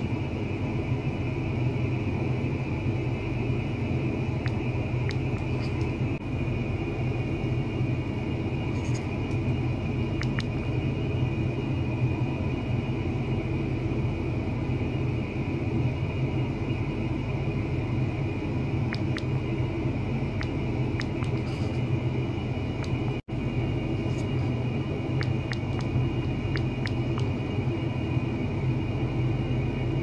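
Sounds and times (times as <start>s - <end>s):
low rumbling hum: 0.0s - 30.0s.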